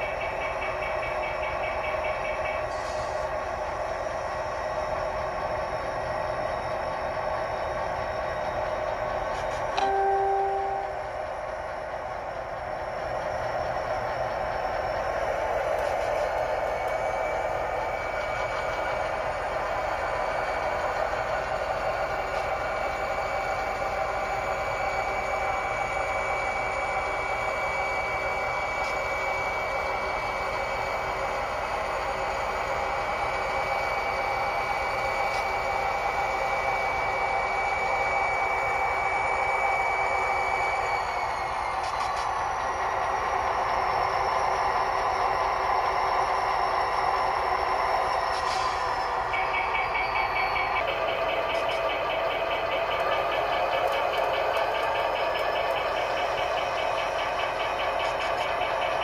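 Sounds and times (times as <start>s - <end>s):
high steady whine: 0.0s - 59.0s
model locomotive engine sound: 0.0s - 59.0s.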